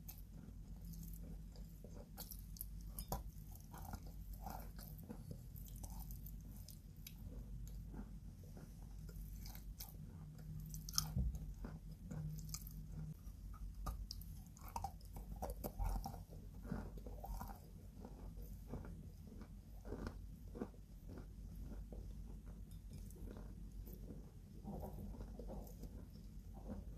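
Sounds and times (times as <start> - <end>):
chalk crunching while chewed: 0.0 - 26.9.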